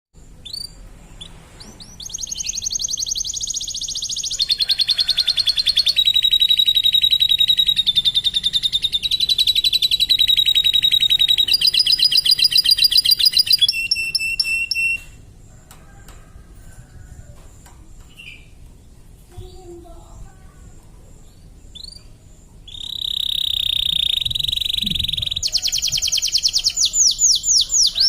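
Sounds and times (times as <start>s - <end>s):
canary singing: 0.3s - 28.0s.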